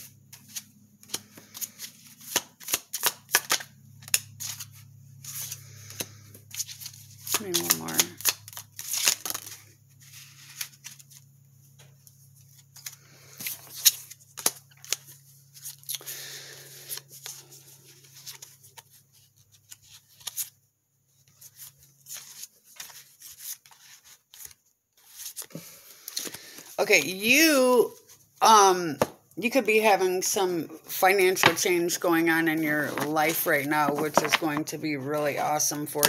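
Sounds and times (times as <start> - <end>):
cards being shuffled: 0.3 - 20.5, 21.2 - 26.8, 31.2 - 36.0.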